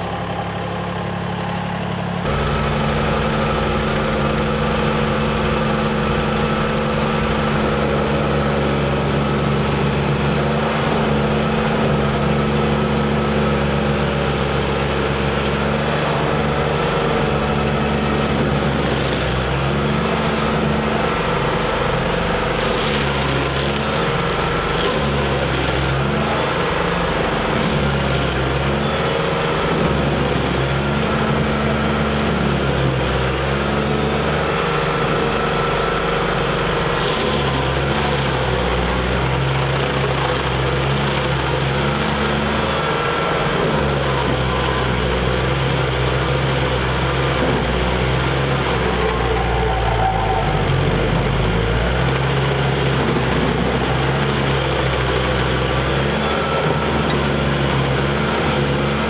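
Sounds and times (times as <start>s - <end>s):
stump grinder grinding stump: 0.0s - 59.0s.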